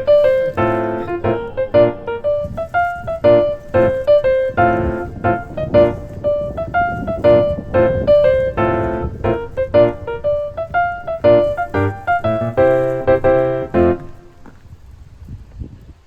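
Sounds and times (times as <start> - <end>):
rhythmic piano tune: 0.0 - 14.5.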